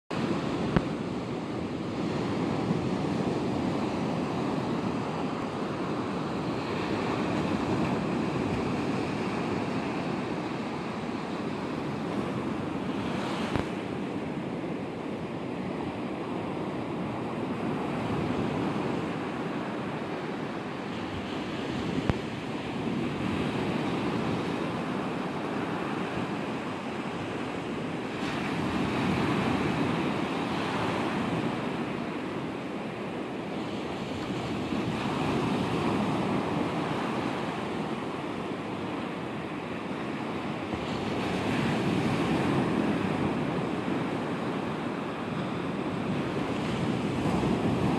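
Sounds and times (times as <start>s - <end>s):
waves breaking on shore: 0.1s - 47.9s.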